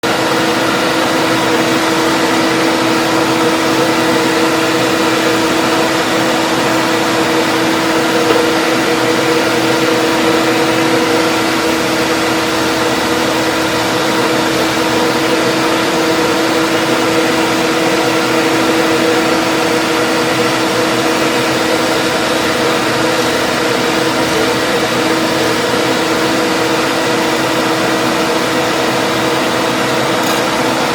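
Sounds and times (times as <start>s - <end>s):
power tool electric motor humming: 0.0s - 30.9s.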